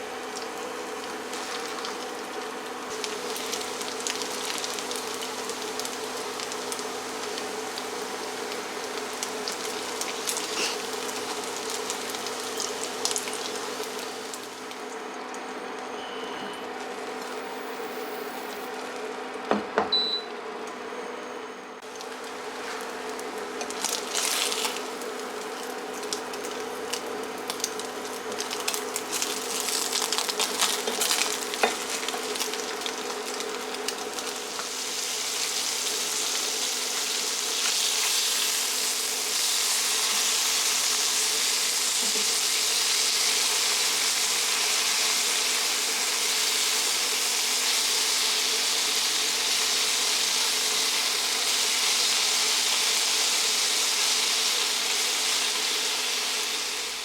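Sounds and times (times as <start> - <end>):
food sizzling in hot oil: 0.0 - 15.2, 16.0 - 18.9, 21.9 - 57.0.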